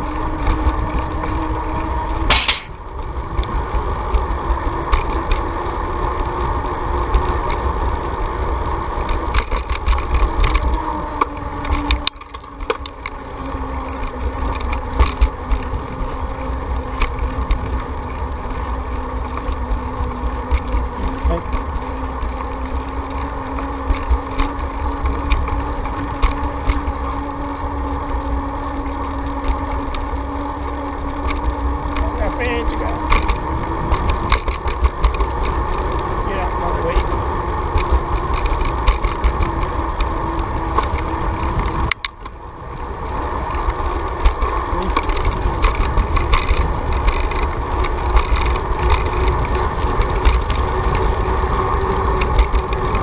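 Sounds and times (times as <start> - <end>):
engine-like hum: 0.0 - 53.0
wind rumble on microphone: 0.0 - 53.0.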